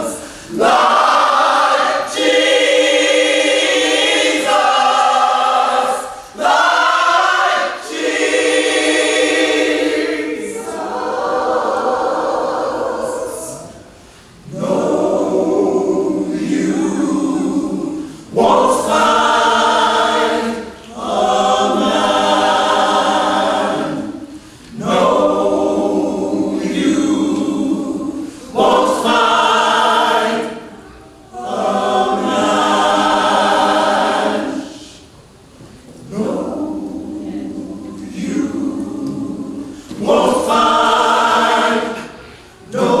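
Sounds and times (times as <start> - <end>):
gospel choir singing a cappella: 0.0 - 43.0.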